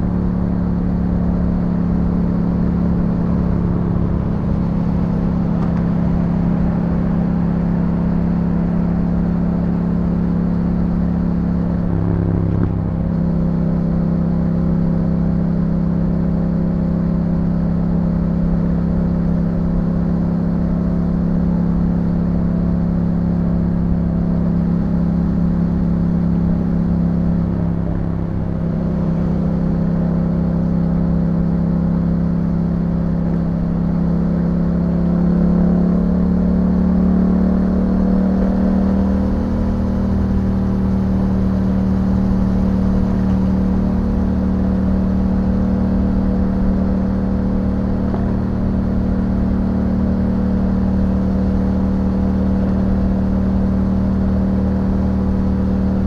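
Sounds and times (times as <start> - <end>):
motorcycle engine cruising: 0.0 - 15.4, 21.8 - 56.0.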